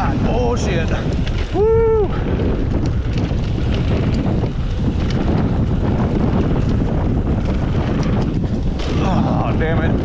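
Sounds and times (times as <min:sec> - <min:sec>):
bike rattling: 0:00.0 - 0:10.0
tyres rolling over dirt: 0:00.0 - 0:10.0
wind rushing over microphone: 0:00.0 - 0:10.0.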